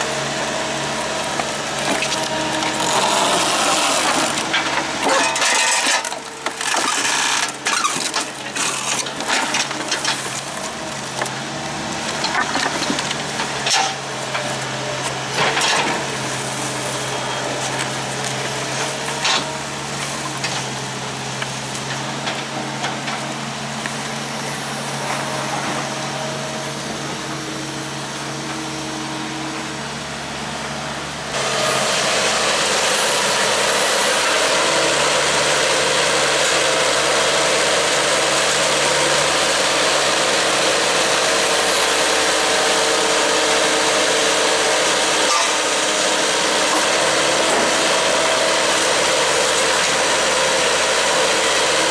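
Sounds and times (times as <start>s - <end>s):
earthmoving equipment engine running: 0.0s - 51.9s.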